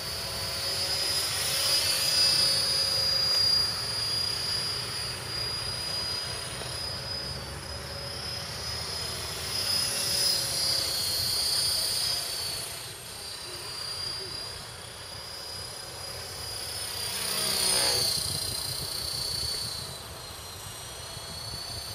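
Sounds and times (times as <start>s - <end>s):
rc helicopter motor whine: 0.0s - 21.9s.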